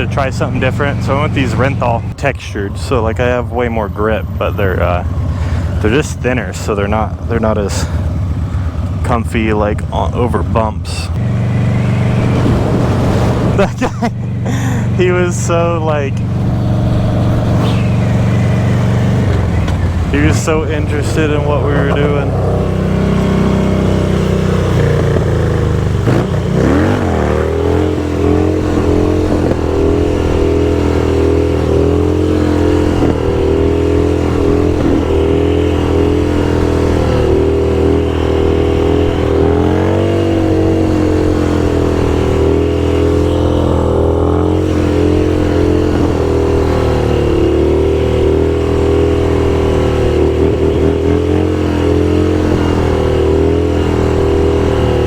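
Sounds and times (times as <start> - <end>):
motorcycle engine running: 0.0 - 3.7, 4.6 - 55.0.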